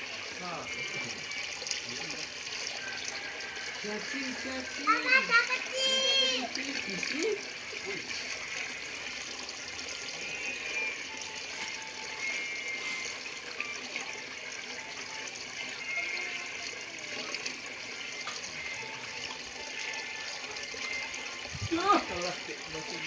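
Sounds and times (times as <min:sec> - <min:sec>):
water running and splashing: 0:00.0 - 0:23.0.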